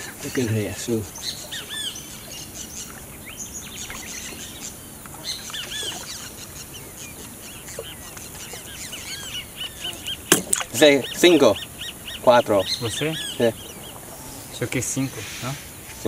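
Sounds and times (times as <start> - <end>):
birds chirping: 0.0 - 16.0
faint hiss: 0.0 - 16.0.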